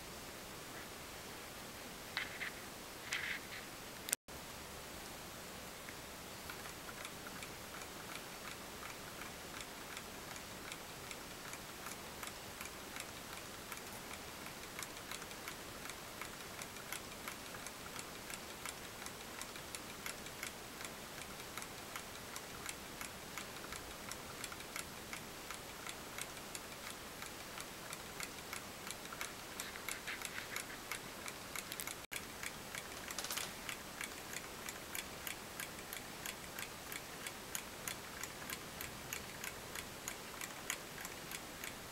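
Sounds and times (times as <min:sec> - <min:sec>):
faint hiss: 0:00.0 - 0:41.9.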